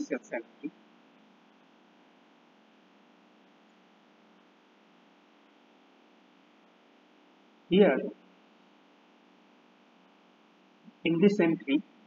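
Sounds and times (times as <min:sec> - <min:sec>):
faint background hiss and hum: 0:00.0 - 0:12.0.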